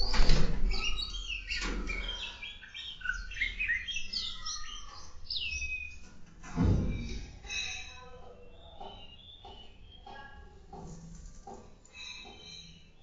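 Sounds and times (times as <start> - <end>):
birds chirping and twittering: 0.0 - 13.0.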